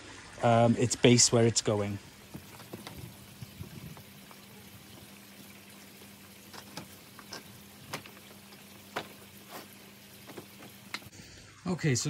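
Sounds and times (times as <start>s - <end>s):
faint steady hum and hiss: 0.0s - 12.0s.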